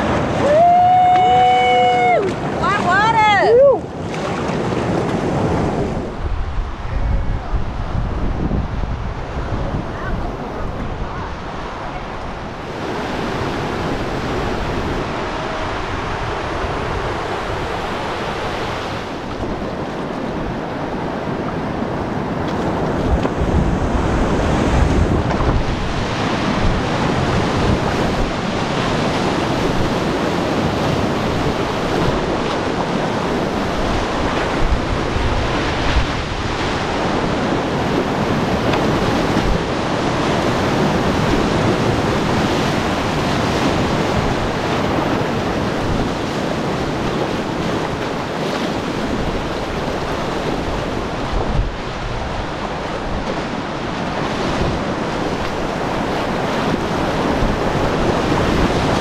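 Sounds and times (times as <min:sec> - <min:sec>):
river whitewater roaring: 0:00.0 - 0:59.0
wind buffeting microphone: 0:00.0 - 0:59.0.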